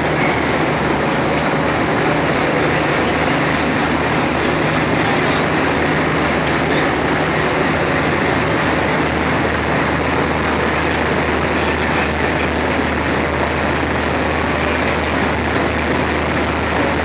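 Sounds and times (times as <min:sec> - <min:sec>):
diesel locomotive engine idling: 0:00.0 - 0:17.0.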